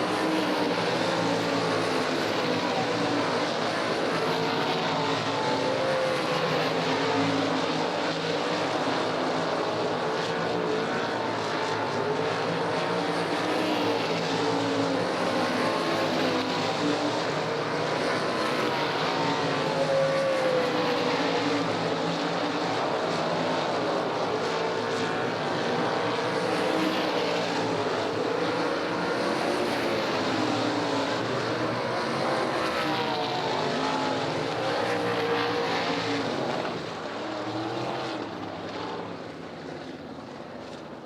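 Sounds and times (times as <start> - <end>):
racing car engines: 0.0 - 41.0.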